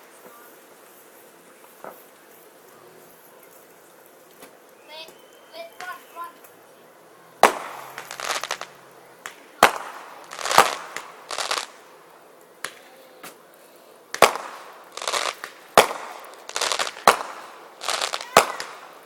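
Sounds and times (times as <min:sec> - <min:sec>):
fireworks bangs: 0:00.0 - 0:03.3, 0:04.3 - 0:13.4, 0:14.0 - 0:19.0
fireworks crackling: 0:00.0 - 0:19.0.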